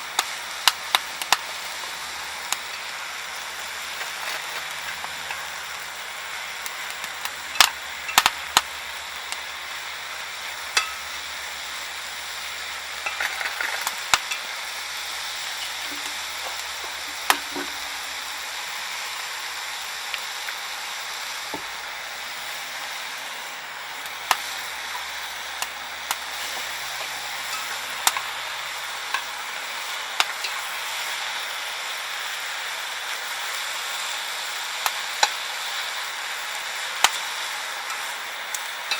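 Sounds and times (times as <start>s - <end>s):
fire popping: 0.0s - 38.9s
sizzling hiss: 0.0s - 38.9s
wood fire crackling: 0.0s - 38.9s.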